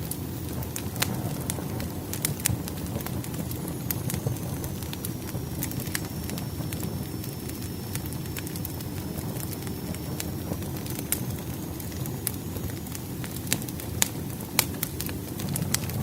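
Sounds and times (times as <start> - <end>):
fire rumbling: 0.0 - 16.0
firewood crackling and popping: 0.0 - 16.0.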